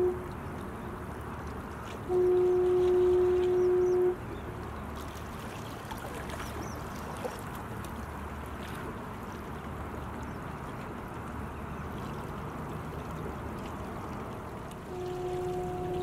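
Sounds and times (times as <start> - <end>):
water wash: 0.0 - 16.0.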